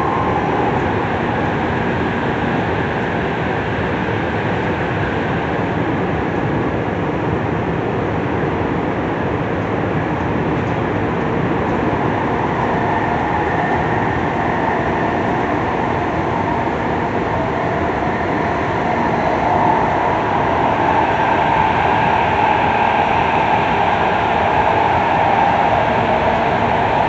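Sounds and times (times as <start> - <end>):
train rolling noise: 0.0 - 27.0.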